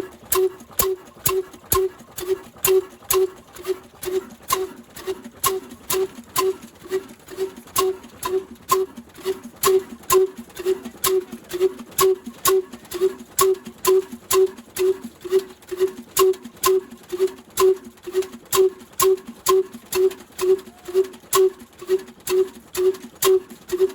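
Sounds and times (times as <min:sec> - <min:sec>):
diesel engine running steadily: 0:00.0 - 0:23.9.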